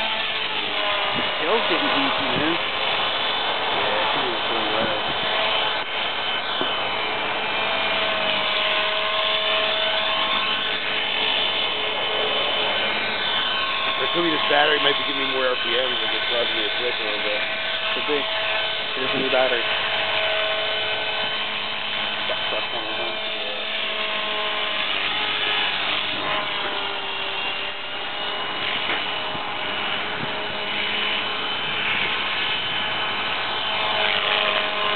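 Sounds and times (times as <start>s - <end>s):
rc helicopter motor whine: 0.0s - 34.9s.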